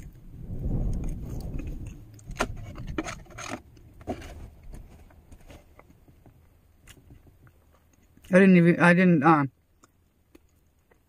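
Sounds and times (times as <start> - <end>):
sharp eating crunches: 0.8 - 8.4, 9.6 - 11.0.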